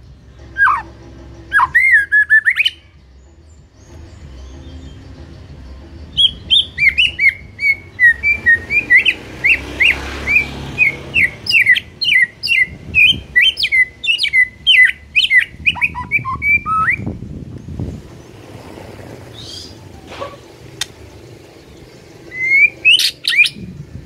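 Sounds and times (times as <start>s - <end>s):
bird singing whistled notes: 0.0s - 18.2s, 19.3s - 24.0s.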